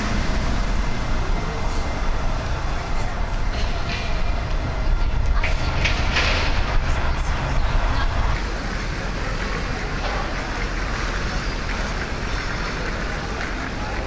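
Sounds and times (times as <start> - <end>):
street noise: 0.0 - 14.0
vehicle passing with low rumble: 0.0 - 14.0.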